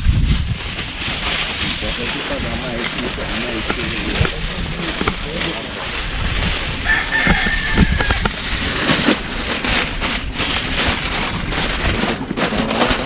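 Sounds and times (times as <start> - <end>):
wood fire crackling and hissing: 0.0 - 12.8
fire pops: 0.0 - 13.0.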